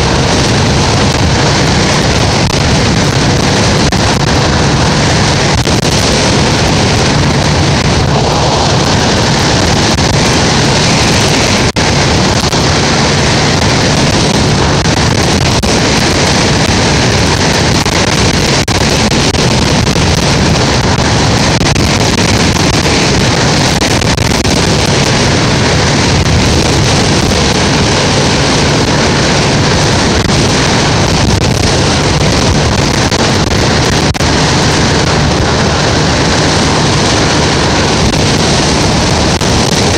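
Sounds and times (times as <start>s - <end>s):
low engine hum: 0.0s - 39.9s
wind buffeting microphone: 0.0s - 39.9s
wind gust pops: 0.0s - 39.9s.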